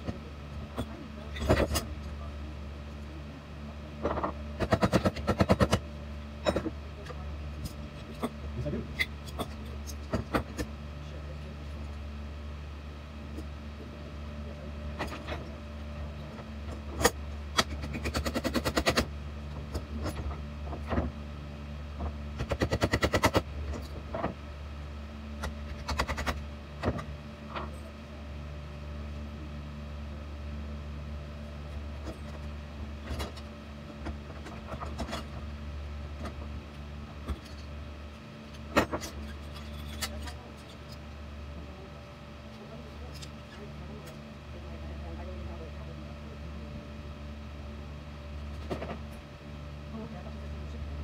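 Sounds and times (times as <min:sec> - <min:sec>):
low shop hum: 0:00.0 - 0:51.0.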